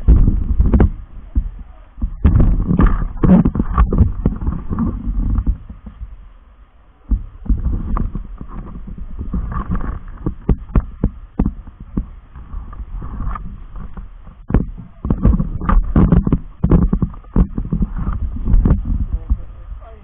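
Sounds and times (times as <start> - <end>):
camera handling rumble: 0.0 - 6.2, 7.1 - 19.6.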